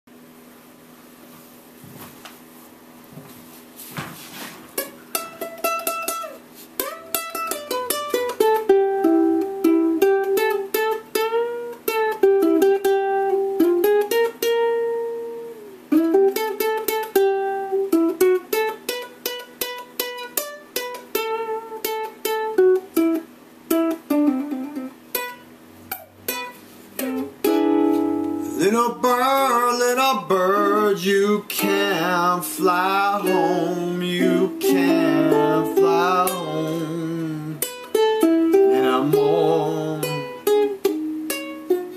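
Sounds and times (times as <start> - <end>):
solo ukulele blues: 4.7 - 41.9.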